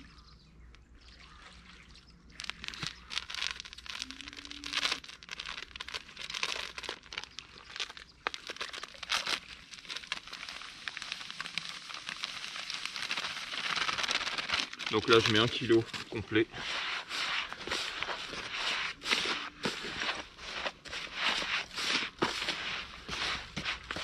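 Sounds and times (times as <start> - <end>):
crumbs being poured: 2.3 - 24.0
packet crinkling and tearing: 2.3 - 24.0.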